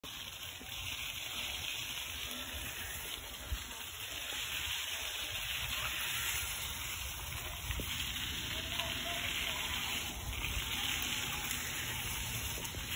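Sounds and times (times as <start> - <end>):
bicycle tyres rolling on wet dirt: 0.0 - 12.9.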